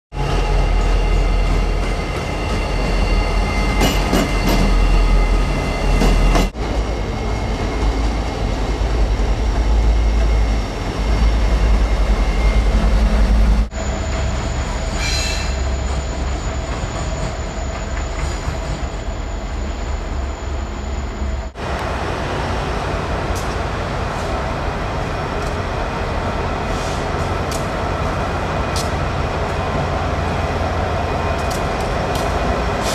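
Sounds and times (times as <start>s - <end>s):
trains rumbling past: 0.1s - 32.9s.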